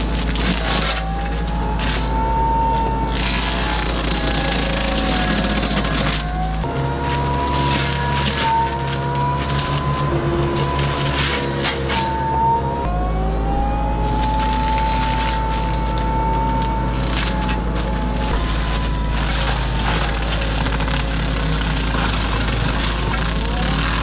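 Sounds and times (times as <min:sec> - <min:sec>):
wood crackling and splintering: 0:00.0 - 0:12.9, 0:13.7 - 0:24.0
mulcher engine drone and whine: 0:00.0 - 0:24.0.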